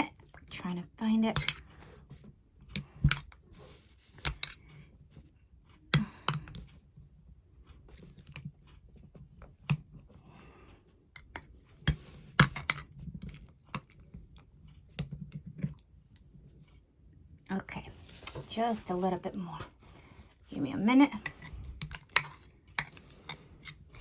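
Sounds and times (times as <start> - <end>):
digging in wax clicks and scrapes: 1.2 - 17.4, 19.8 - 24.0.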